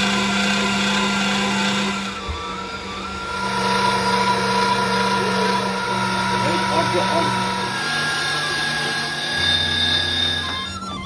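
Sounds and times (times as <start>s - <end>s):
electric meat mincer humming: 0.0s - 11.0s.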